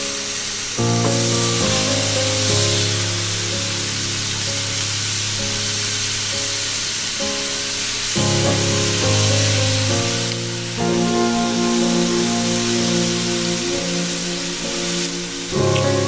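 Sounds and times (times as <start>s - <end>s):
background music of held notes: 0.0s - 16.0s
chicken wings sizzling on grill: 0.0s - 16.0s.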